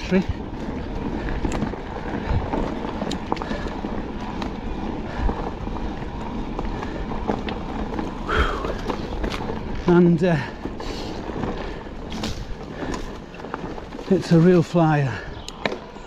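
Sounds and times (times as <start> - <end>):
bike rattling over bumps: 0.0 - 16.0
bike tyres on dirt: 0.0 - 16.0.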